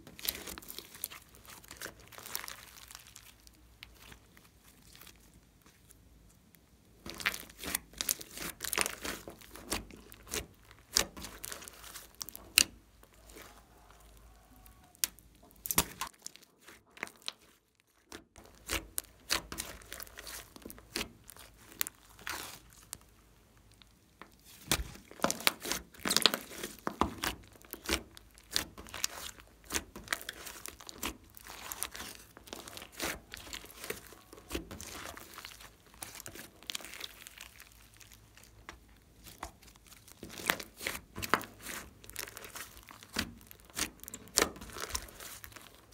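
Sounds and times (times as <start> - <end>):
slime popping and crackling: 0.0 - 6.0, 7.0 - 45.9.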